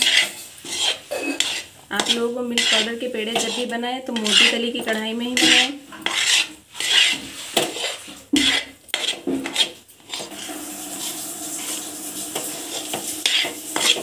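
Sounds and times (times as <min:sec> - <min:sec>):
spatula scraping metal pan: 0:00.0 - 0:14.0.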